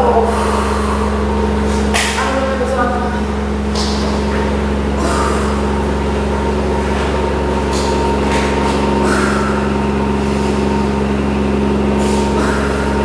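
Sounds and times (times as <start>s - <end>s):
loud steady low hum: 0.0s - 13.0s.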